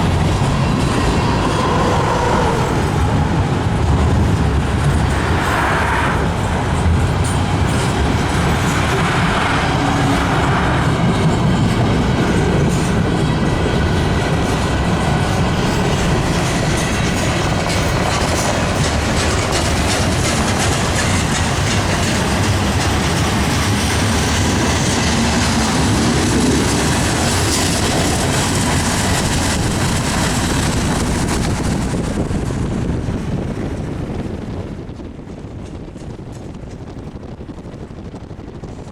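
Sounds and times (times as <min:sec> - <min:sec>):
train wheels clacking over rail joints: 0:00.0 - 0:34.1.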